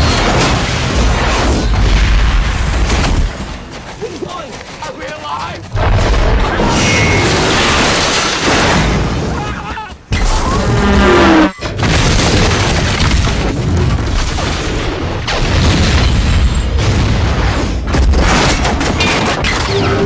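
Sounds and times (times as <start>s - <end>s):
explosions and booms: 0.0s - 4.0s, 5.6s - 20.0s
heavy crashing impacts: 0.0s - 4.6s, 5.6s - 19.4s.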